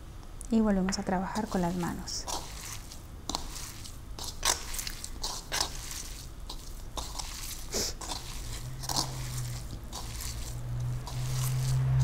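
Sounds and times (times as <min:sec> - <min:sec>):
low steady hum: 0:00.0 - 0:12.0
hands squishing tofu: 0:01.4 - 0:12.0.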